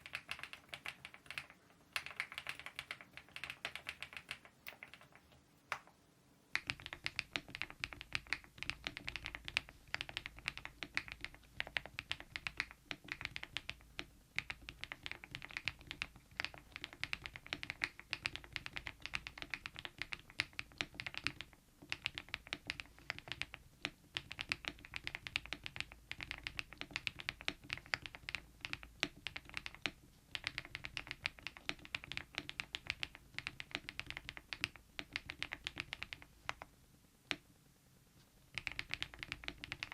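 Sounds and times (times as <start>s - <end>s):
mechanical keyboard typing: 0.0s - 5.9s, 6.5s - 36.7s, 38.5s - 39.9s.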